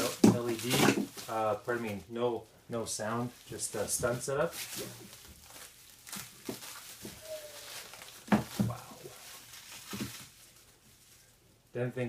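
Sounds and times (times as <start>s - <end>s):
handling noises: 0.0s - 2.2s, 3.2s - 11.2s
packaging crinkling and rustling: 0.0s - 2.2s, 3.0s - 11.4s.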